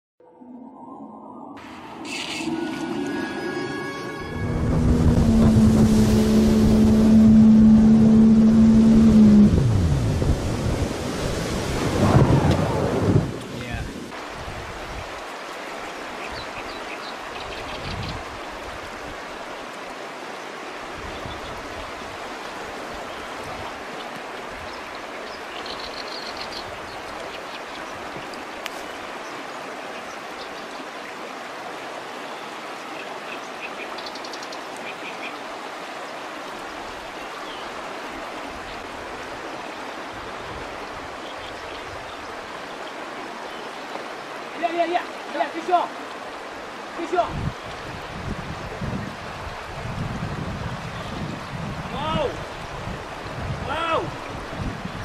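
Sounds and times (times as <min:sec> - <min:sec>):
river current rushing: 0:00.9 - 0:55.0.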